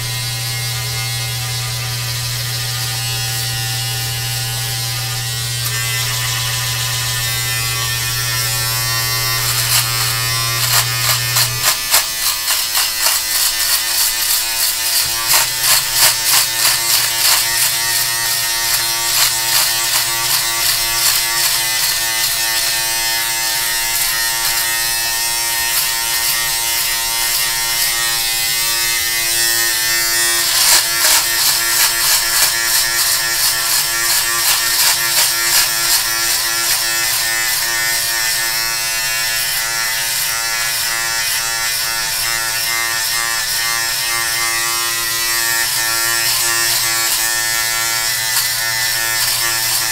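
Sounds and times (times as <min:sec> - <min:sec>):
electric beard trimmer buzzing: 0:00.0 - 0:49.9.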